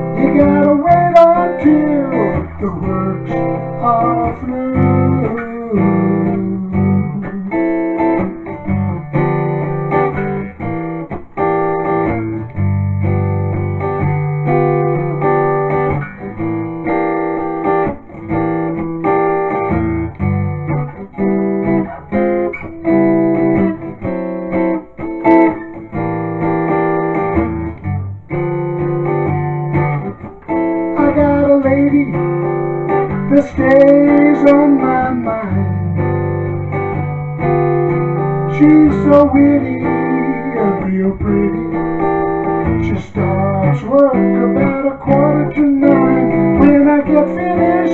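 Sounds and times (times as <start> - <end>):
acoustic guitar strummed: 0.0 - 47.9.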